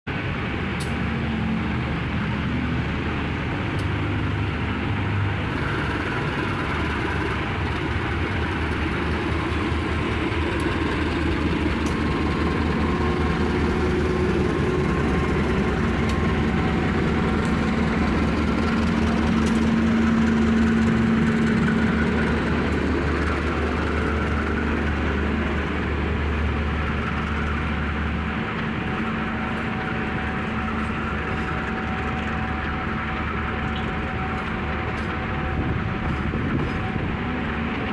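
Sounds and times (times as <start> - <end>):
diesel locomotive droning: 0.1 - 37.9
train wheels rumbling: 0.1 - 37.9.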